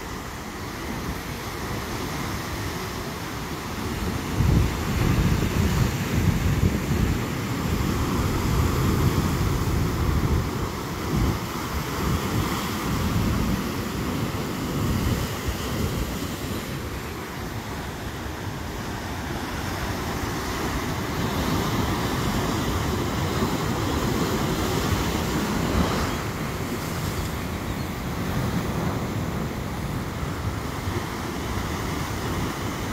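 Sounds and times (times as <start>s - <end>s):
wind buffeting microphone: 3.7s - 32.9s.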